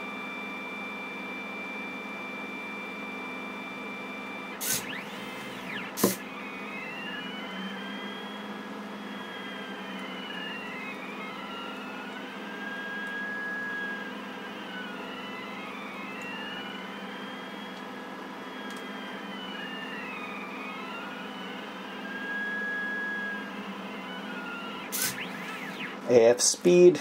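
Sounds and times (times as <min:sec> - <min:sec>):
steady hum: 0:00.0 - 0:27.0
stepper motors whining: 0:00.0 - 0:27.0.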